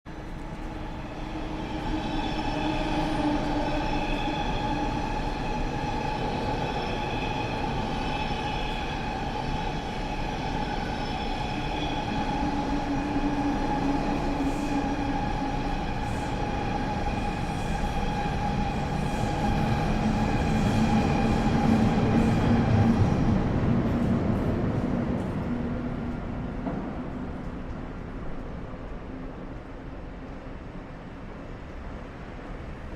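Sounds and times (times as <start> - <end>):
underground train rumble: 0.1 - 32.9.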